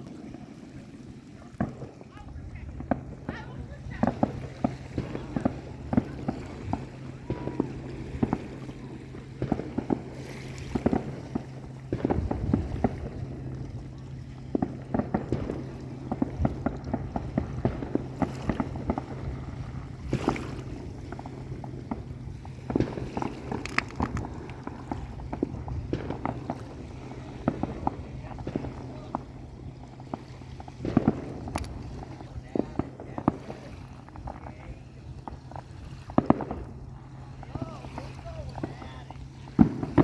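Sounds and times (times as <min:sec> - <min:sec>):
fireworks popping and banging: 0:00.0 - 0:40.0
steady low hum: 0:00.0 - 0:40.0.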